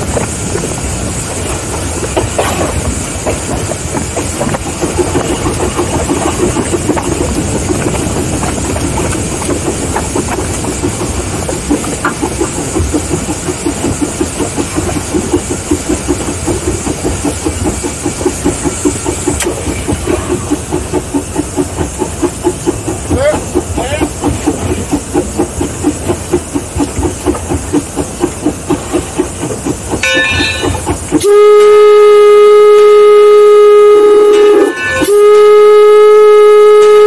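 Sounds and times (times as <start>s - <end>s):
constant steam hiss: 0.0s - 37.0s
steam locomotive exhaust beats: 0.0s - 37.0s.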